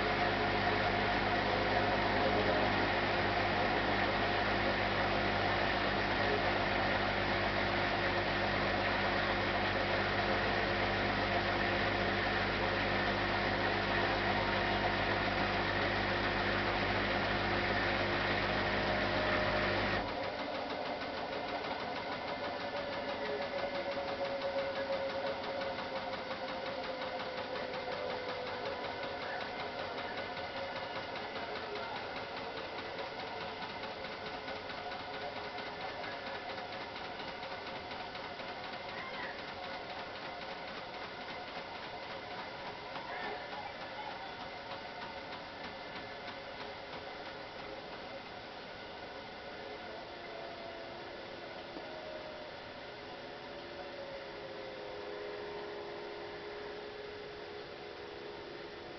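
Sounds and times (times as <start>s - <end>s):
drum coasting down whine: 0.0s - 49.4s
washing machine drum spinning: 0.0s - 49.4s.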